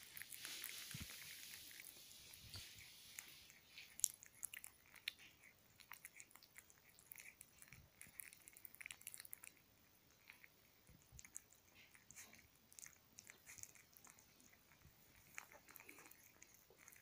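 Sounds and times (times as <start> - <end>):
puppies smacking and licking: 0.0 - 17.0.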